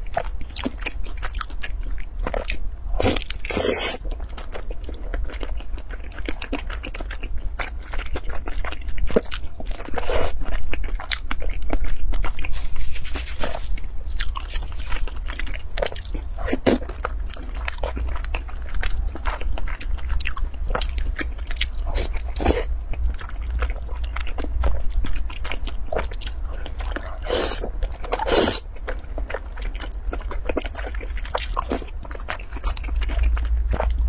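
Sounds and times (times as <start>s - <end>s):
chewing with wet smacks and crunching: 0.0s - 34.0s.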